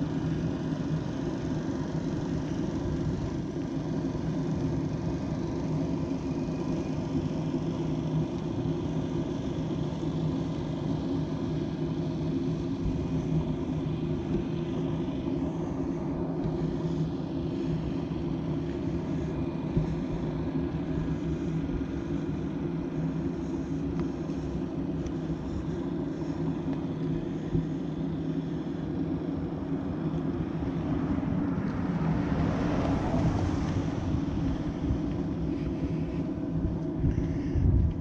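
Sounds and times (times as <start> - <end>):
engine humming: 0.0 - 38.0.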